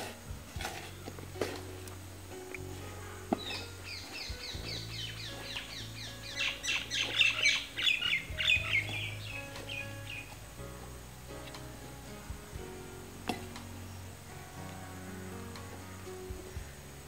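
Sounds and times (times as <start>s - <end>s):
songbird chirping: 0.0s - 17.0s
steady low hum: 0.0s - 17.0s.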